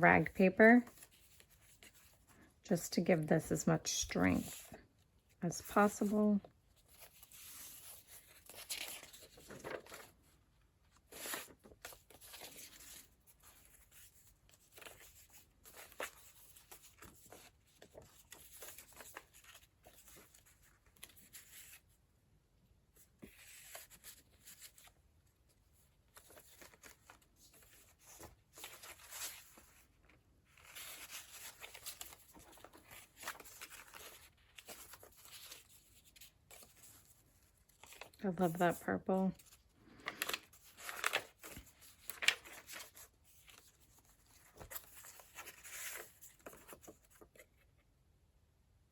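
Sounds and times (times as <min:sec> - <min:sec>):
paper pages rustling and flipping: 0:00.7 - 0:02.3, 0:05.6 - 0:22.0, 0:22.9 - 0:47.9.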